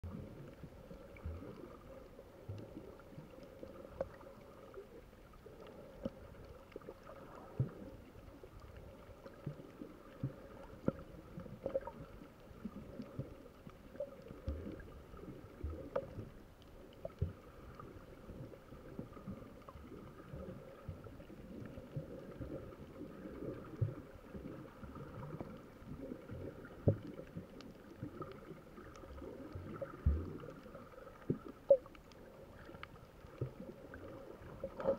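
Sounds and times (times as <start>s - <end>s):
faint steady hum: 0.0s - 34.9s
underwater gurgling: 0.0s - 34.9s.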